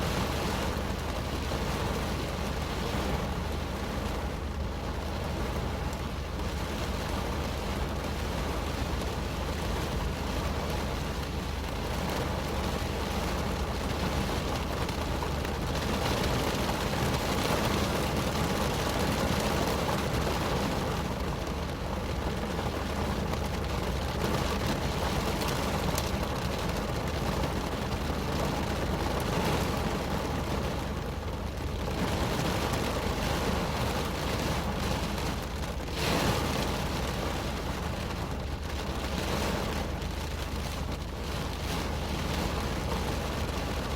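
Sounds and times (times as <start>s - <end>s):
rain on car roof: 0.0s - 43.9s.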